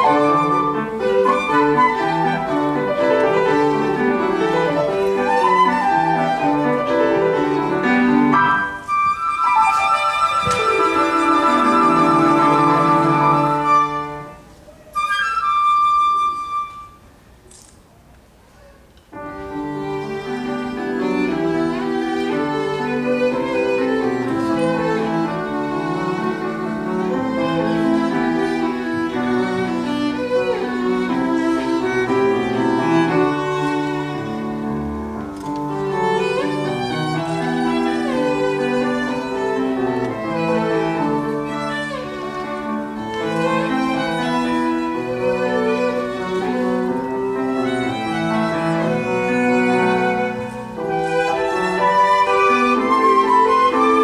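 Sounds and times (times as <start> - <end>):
piano chords: 0.0 - 17.1, 19.1 - 54.0
flute: 0.0 - 17.2, 19.8 - 34.4, 35.4 - 54.0
violin melody: 0.0 - 17.2, 19.1 - 54.0.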